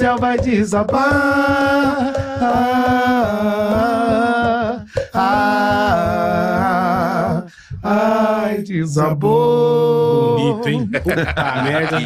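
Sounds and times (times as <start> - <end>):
men singing a cappella: 0.0 - 12.0.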